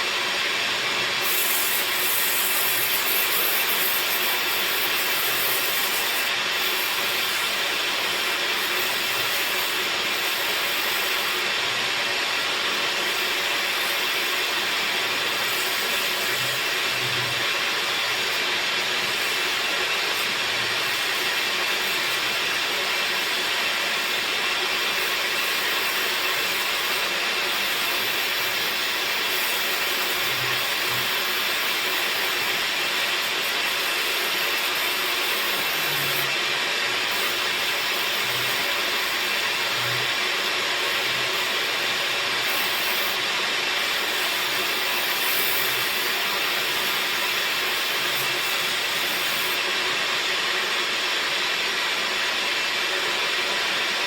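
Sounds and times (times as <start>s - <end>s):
woodworking machine running: 0.0s - 54.0s.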